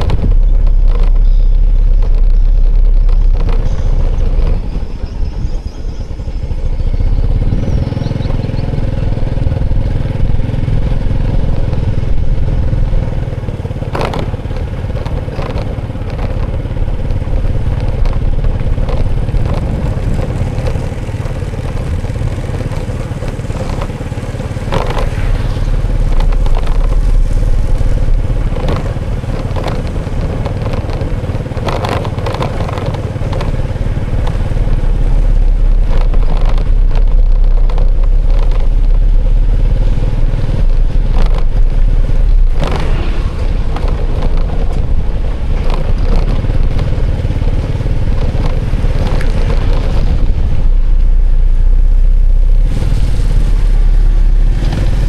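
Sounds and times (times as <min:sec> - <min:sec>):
low wind buffeting: 0:00.0 - 0:55.0
motorcycle engine rumble: 0:00.0 - 0:55.0
road noise: 0:00.0 - 0:55.0
sharp clicks and rattles: 0:00.0 - 0:55.0.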